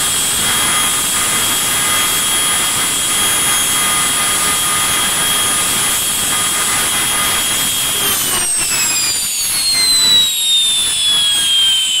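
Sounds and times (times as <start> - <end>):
jet engine starter whine: 0.0 - 12.0.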